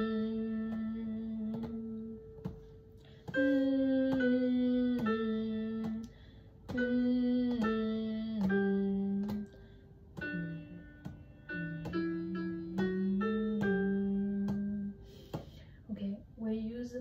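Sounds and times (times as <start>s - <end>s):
slow two-part melody: 0.0s - 15.1s.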